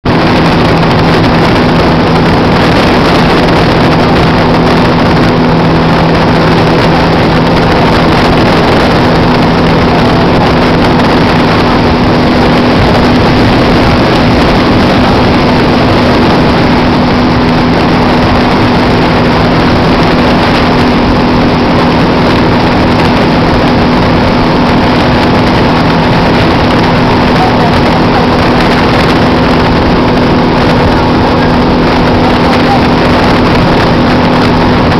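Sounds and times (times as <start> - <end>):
dense rushing noise: 0.0 - 34.9
motorboat engine running: 0.0 - 34.9.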